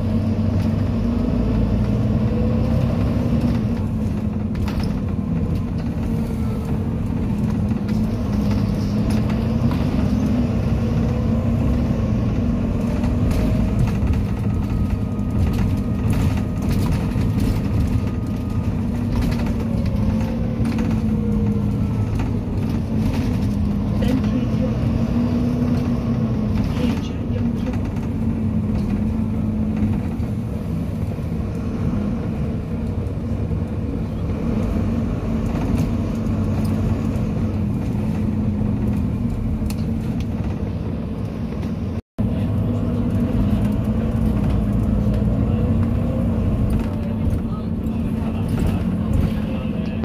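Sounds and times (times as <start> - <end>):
bus body rattling: 0.0 - 50.0
bus diesel engine droning: 0.0 - 50.0
road rumble: 0.0 - 50.0.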